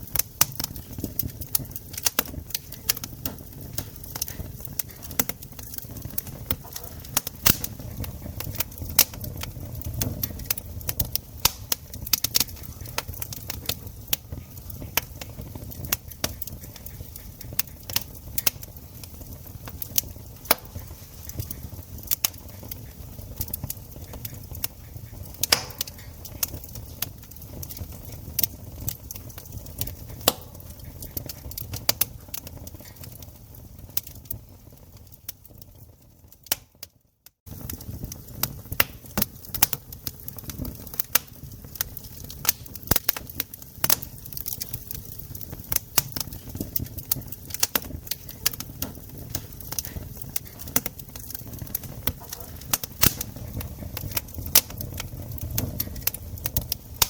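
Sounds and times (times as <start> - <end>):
campfire crackling and popping: 0.0 - 57.0
low rumble of flames: 0.0 - 57.0.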